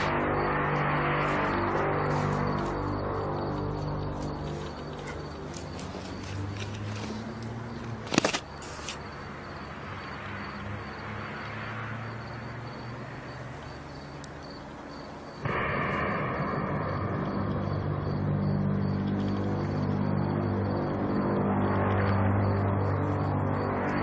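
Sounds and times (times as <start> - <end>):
low droning hum: 0.0 - 11.1, 12.1 - 24.0
high whine: 0.0 - 24.0.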